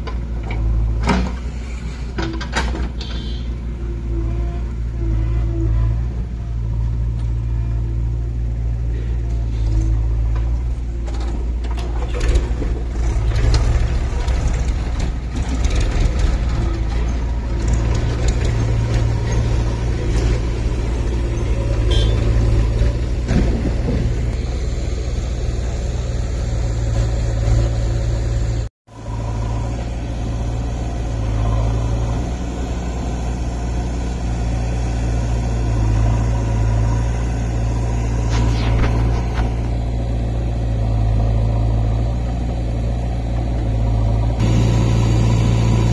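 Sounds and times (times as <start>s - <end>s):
diesel engines rumbling: 0.0s - 45.9s.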